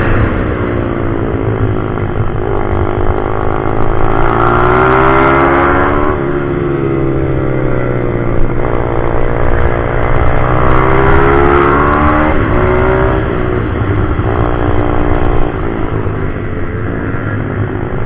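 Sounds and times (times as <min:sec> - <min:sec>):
motorbike engine revving: 0:00.0 - 0:16.4.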